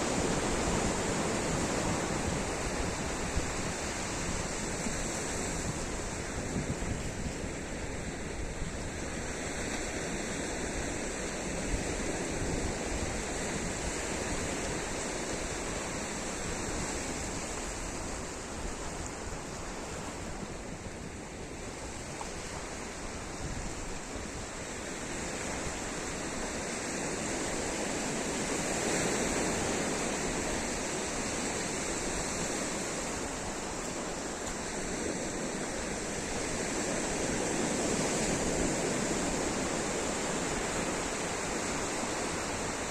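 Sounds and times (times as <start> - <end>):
waves breaking on sandy beach: 0.0 - 42.9.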